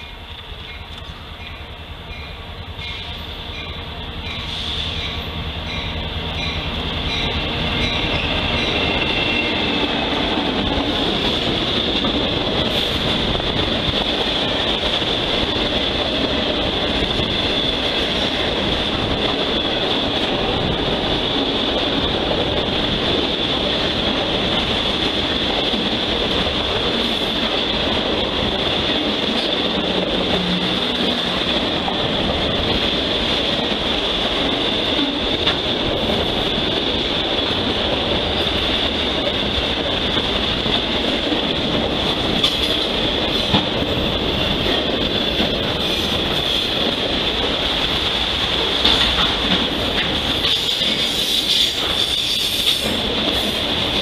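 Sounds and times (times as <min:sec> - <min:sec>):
freight train rumbling and clattering: 0:00.0 - 0:54.0.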